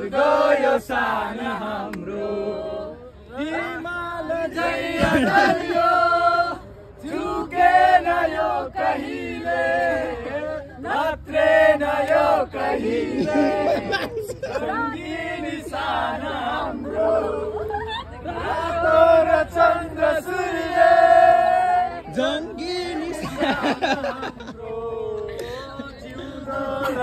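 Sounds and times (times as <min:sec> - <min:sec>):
group singing and chanting: 0:00.0 - 0:27.0.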